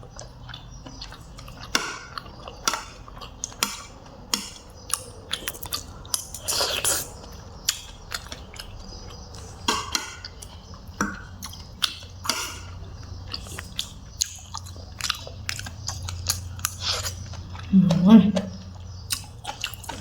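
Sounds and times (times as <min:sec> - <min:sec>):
chewing and eating: 0:00.0 - 0:20.0.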